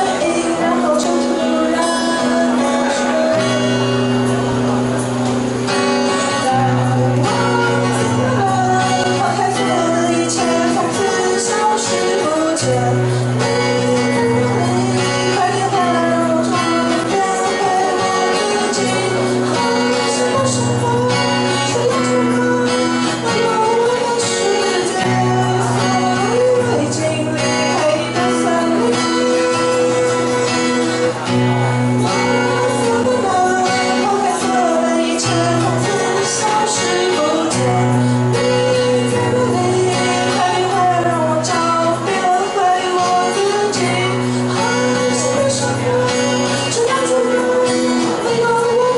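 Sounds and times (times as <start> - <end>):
person singing: 0.0 - 48.9
strummed acoustic guitar: 0.0 - 48.9.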